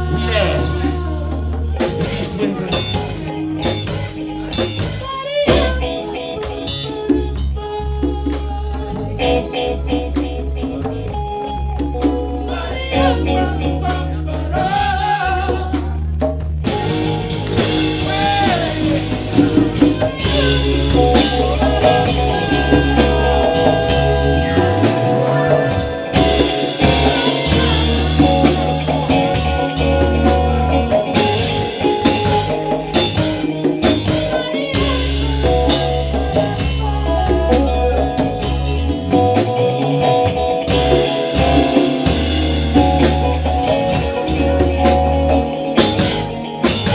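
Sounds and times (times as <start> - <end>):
person singing: 0.0 - 10.9, 12.0 - 46.9
congas: 0.0 - 46.9
electric bass line: 0.0 - 46.9
live band playing: 0.0 - 46.9.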